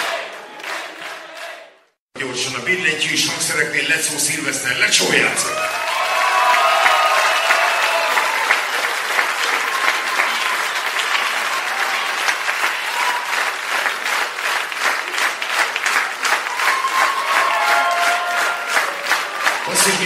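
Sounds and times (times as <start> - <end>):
large crowd applauding: 0.0 - 1.6, 5.4 - 20.0.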